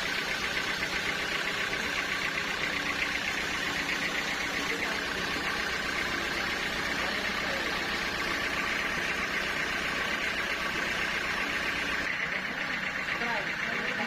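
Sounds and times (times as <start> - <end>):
sawmill machinery drone: 0.0 - 14.0.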